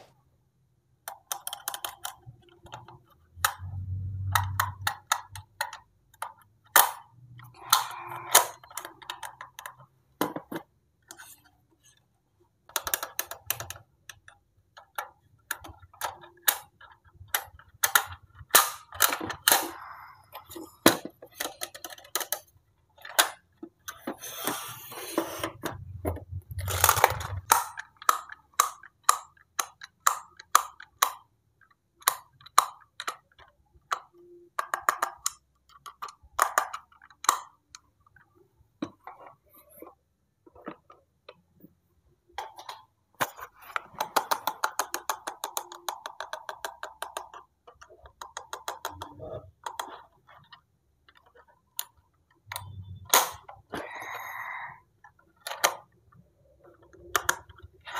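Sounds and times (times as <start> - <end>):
plastic toys clicking and snapping: 1.0 - 41.6, 42.3 - 57.9
plastic toys rattling and scraping: 1.1 - 41.6, 42.3 - 57.9.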